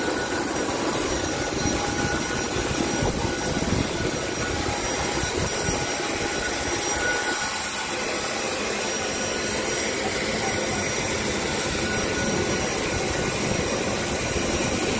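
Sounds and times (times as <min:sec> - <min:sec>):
jet airliner whistle and hiss: 0:00.0 - 0:14.9.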